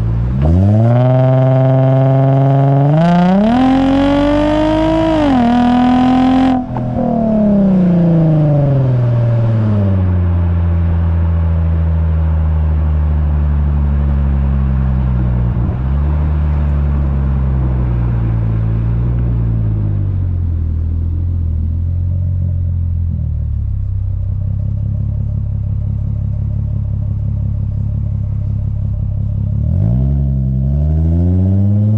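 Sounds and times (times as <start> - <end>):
car exhaust while driving: 0.0 - 31.9.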